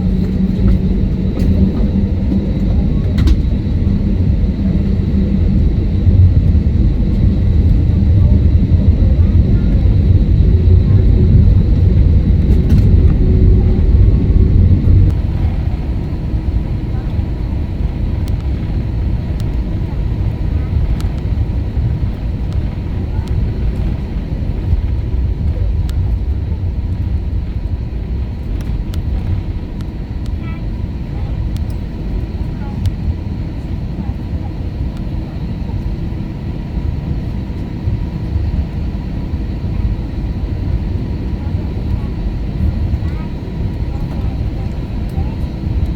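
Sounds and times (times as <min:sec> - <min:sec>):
faint steady whine: 0:00.0 - 0:45.9
jet engine drone in cabin: 0:00.0 - 0:45.9.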